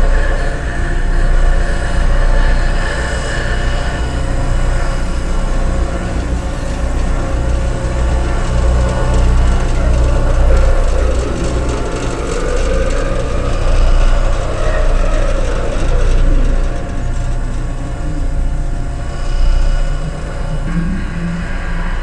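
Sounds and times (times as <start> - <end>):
drone of sustained tones: 0.0 - 22.0
heavy low rumble: 0.0 - 22.0.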